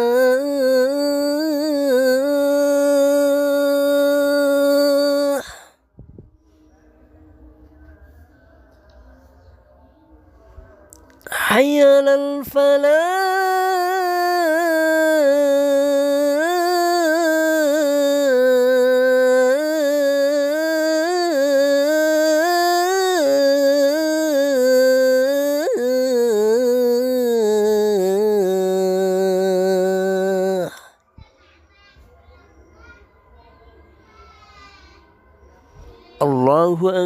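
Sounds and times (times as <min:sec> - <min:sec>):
person chanting call to prayer: 0:00.0 - 0:05.8, 0:06.7 - 0:31.0, 0:36.1 - 0:37.0.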